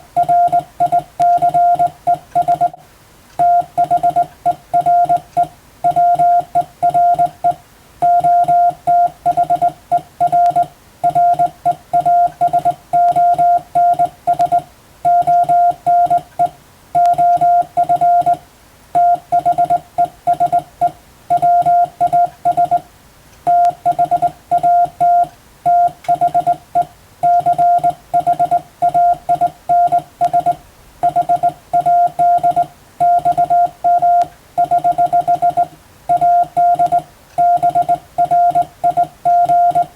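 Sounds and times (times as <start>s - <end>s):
morse code beeping: 0.0s - 2.8s, 3.4s - 18.4s, 19.0s - 22.8s, 23.5s - 39.9s.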